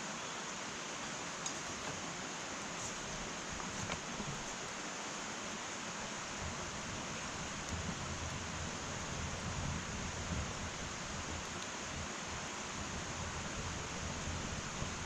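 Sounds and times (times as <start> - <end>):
hiss of fire flames: 1.3 - 15.0.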